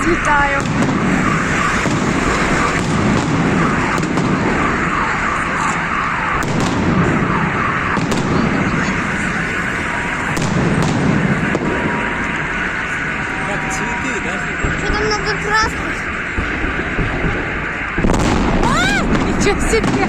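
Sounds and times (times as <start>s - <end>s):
car alarms wailing: 0.0s - 20.0s
fireworks bangs: 0.0s - 20.0s
fireworks crackling: 0.0s - 20.0s.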